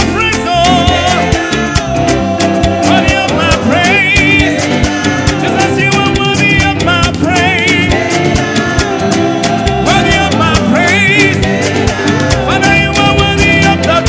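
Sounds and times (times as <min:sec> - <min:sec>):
drum kit groove: 0:00.0 - 0:14.0
upbeat band music: 0:00.0 - 0:14.0
wavering melody line: 0:00.0 - 0:14.0.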